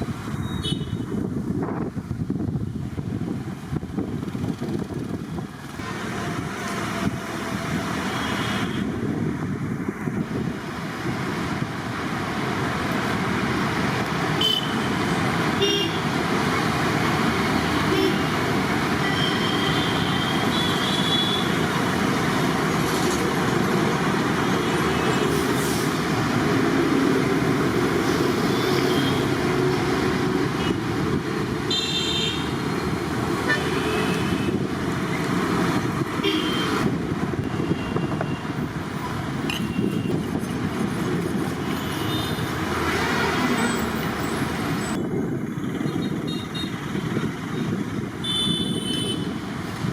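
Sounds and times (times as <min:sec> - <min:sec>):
street traffic noise: 0:00.0 - 0:49.9.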